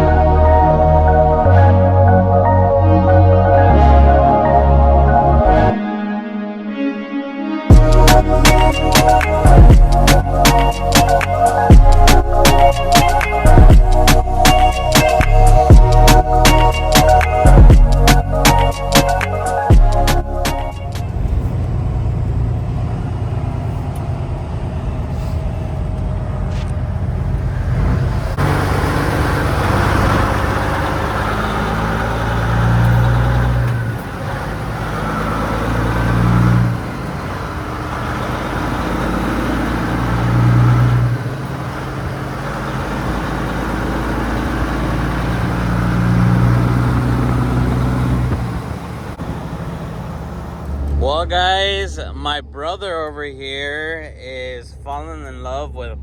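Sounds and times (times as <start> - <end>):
vehicle engine revving: 7.7 - 56.0.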